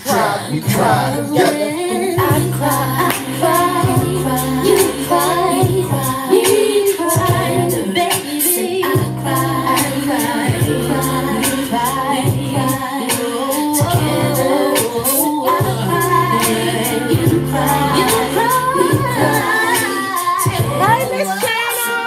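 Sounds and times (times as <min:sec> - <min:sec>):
hip-hop song with sung melody: 0:00.0 - 0:22.0.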